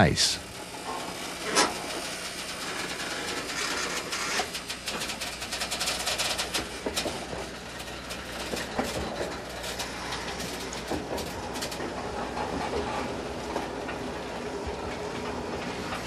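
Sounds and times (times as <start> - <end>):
freight train wheels on rails: 0.4 - 16.0.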